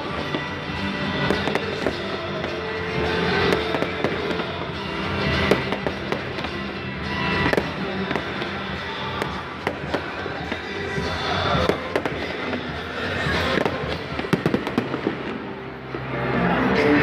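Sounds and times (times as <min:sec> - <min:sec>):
fireworks bursting and crackling: 0:00.0 - 0:16.4
music playing: 0:00.0 - 0:17.0.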